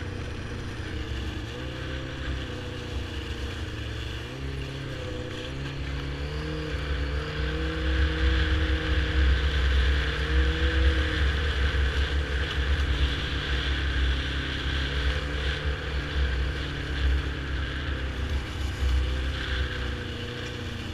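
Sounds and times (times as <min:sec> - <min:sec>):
snowmobile engine droning: 0:00.0 - 0:20.9.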